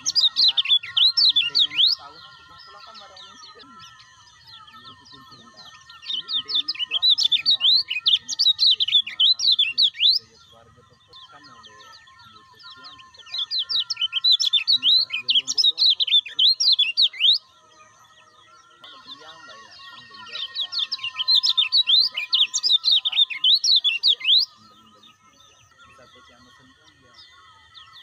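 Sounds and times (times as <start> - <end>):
bird singing high sweeping chirps: 0.0 - 28.0.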